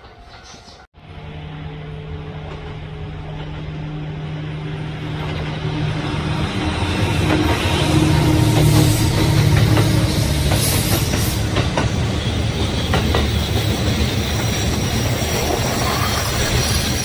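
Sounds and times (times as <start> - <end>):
electric train hum and rail noise: 0.0 - 17.0.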